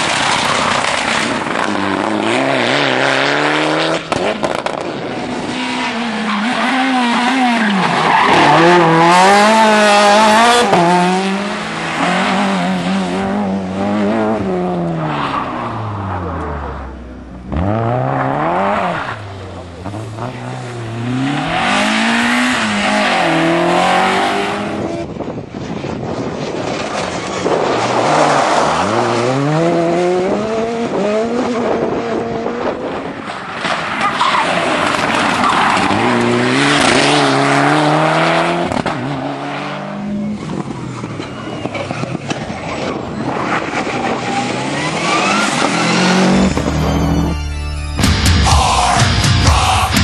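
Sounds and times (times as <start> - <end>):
rally car engines revving: 0.0 - 47.4.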